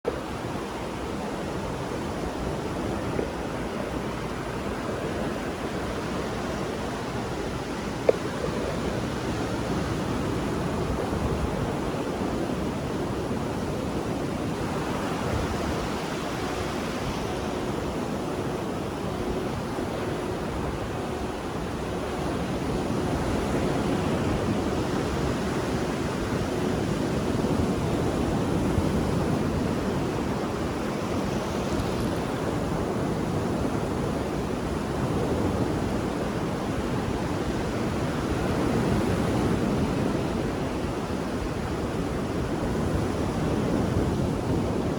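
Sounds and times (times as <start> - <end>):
ocean waves rolling: 0.1 - 44.9.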